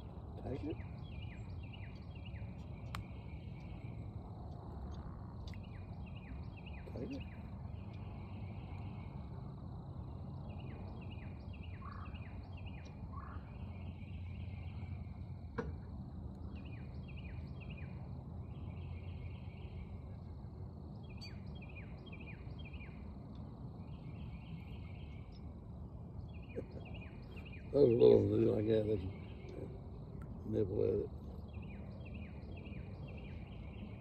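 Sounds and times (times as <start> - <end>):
low rumble of wind: 0.0 - 34.0
songbird singing: 0.0 - 34.0.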